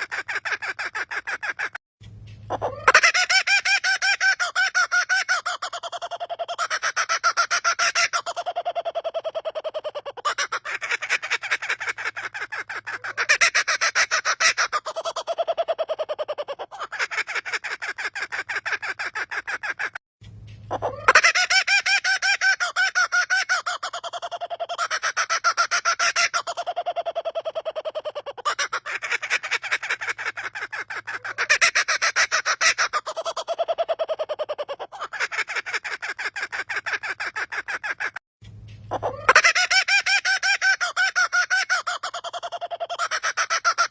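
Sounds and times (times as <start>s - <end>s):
bird laughing call: 0.0s - 1.8s, 2.4s - 20.0s, 20.7s - 38.2s, 38.9s - 43.9s.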